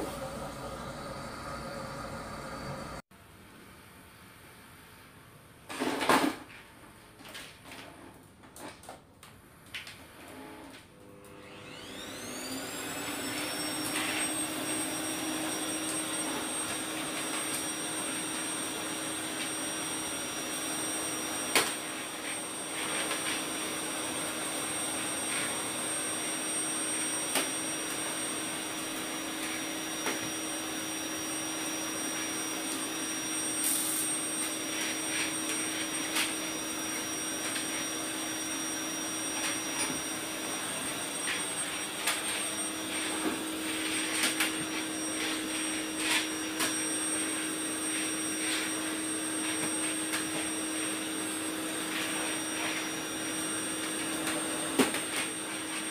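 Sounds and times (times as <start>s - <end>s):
vacuum cleaner whining: 0.0s - 3.1s, 5.7s - 55.9s.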